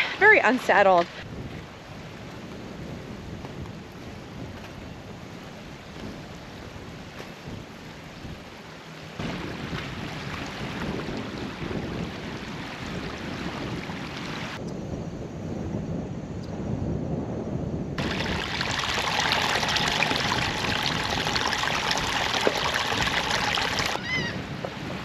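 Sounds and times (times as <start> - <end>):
waves washing on shore: 0.0 - 14.6, 18.0 - 25.0
wind on microphone: 0.0 - 25.0.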